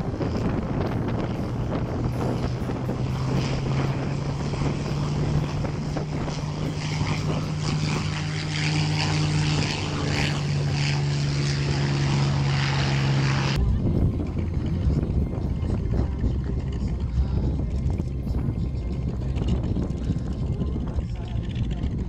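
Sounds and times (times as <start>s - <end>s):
propeller plane engine at full power: 0.0s - 22.0s
quieter engine sound: 0.0s - 22.0s.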